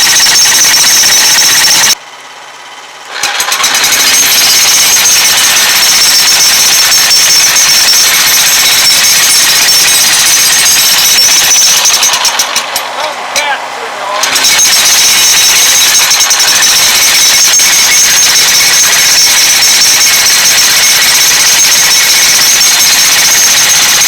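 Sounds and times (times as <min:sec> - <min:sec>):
jackhammer breaking concrete: 0:00.0 - 0:02.0, 0:03.0 - 0:24.0.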